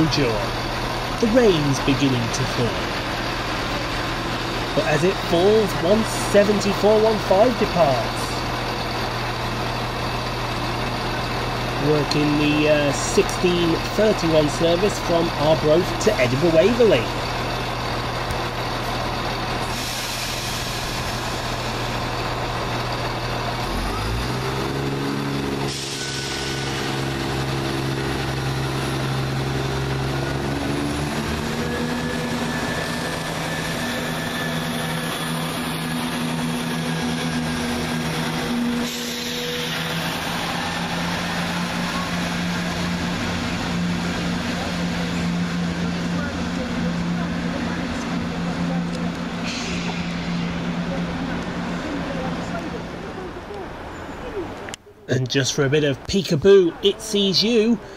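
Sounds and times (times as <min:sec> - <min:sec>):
train diesel engines droning: 0:00.0 - 0:57.9.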